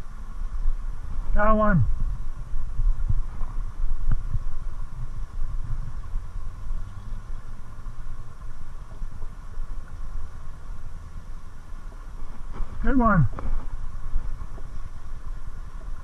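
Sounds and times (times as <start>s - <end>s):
river rushing: 0.0s - 16.0s
wind buffeting microphone: 0.0s - 16.0s.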